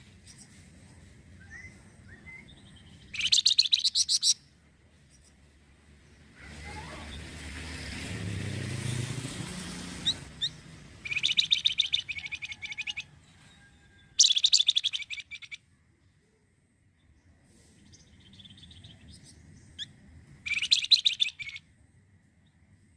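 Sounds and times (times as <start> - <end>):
songbird chirping and trilling: 1.3 - 7.5, 10.0 - 22.9.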